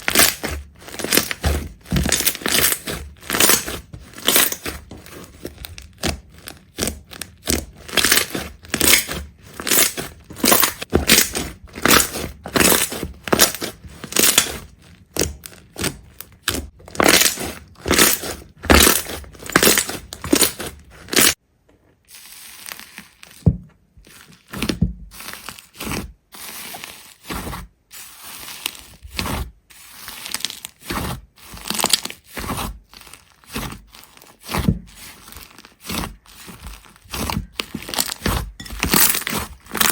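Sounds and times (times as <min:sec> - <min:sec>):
brittle material crunching: 0:00.0 - 0:21.4, 0:22.0 - 0:39.9.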